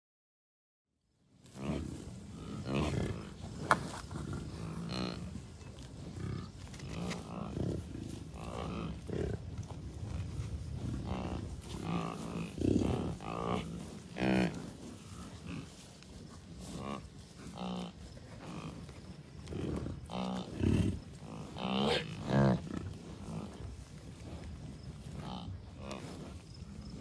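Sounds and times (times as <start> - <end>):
bison grunting: 1.4 - 27.0.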